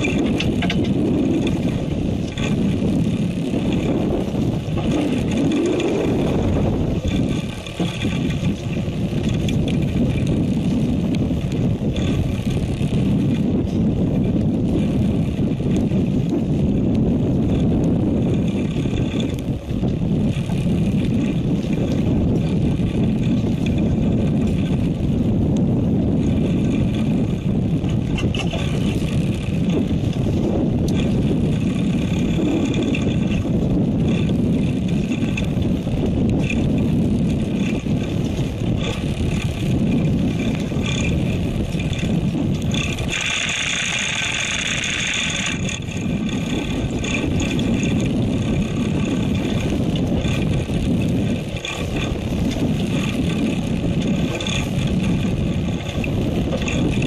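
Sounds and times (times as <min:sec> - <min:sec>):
boat engine rumble: 0:00.0 - 0:57.0
high whirring: 0:00.0 - 0:57.0
wind: 0:00.0 - 0:57.0.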